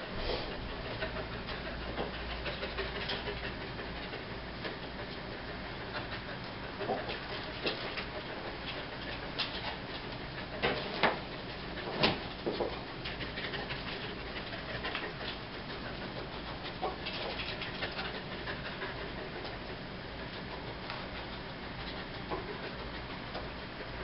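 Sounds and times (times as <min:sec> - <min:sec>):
dog sniffing and breathing hard: 0:00.0 - 0:24.0.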